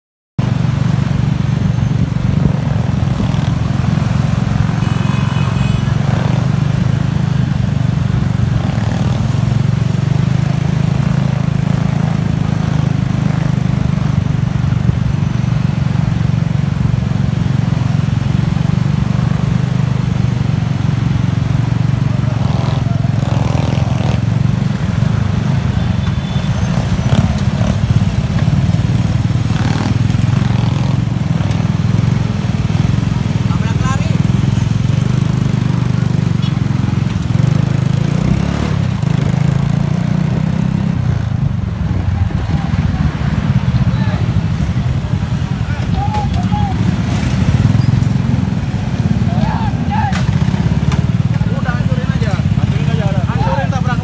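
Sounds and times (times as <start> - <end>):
scooter engines humming: 0.4 - 54.0.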